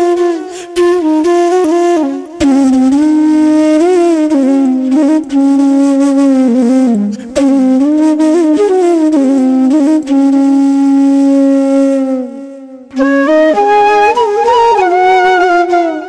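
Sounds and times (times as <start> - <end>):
solo flute slow melody: 0.0 - 16.0.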